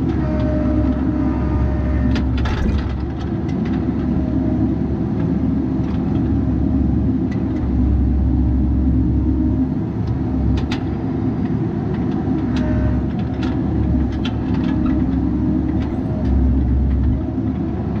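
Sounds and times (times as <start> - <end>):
excavator engine rumbling: 0.0 - 18.0.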